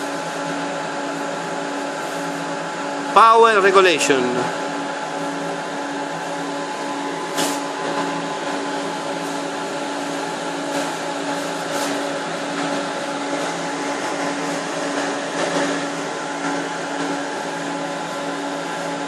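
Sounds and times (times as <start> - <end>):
cooling fans whirring: 0.0 - 19.0
steady hum: 0.0 - 19.0.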